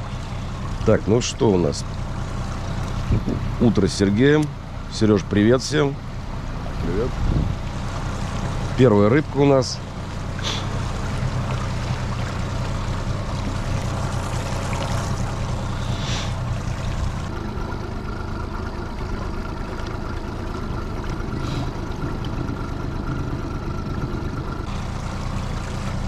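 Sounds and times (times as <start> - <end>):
outboard motor running: 0.0 - 26.0
water washing along hull: 0.0 - 26.0.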